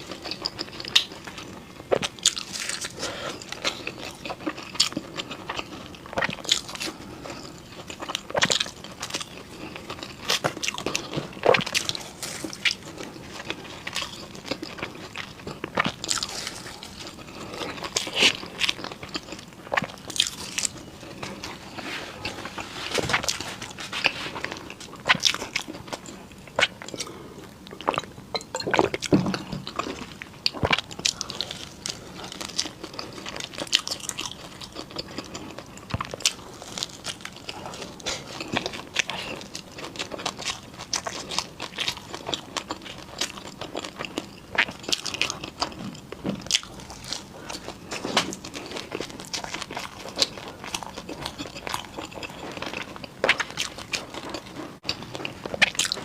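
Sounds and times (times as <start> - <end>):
chewing: 0.0 - 56.0.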